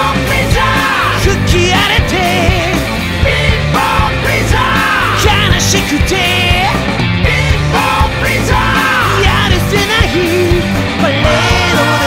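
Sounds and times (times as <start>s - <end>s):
rock band playing: 0.0s - 12.0s
wavering lead guitar line: 0.0s - 12.0s.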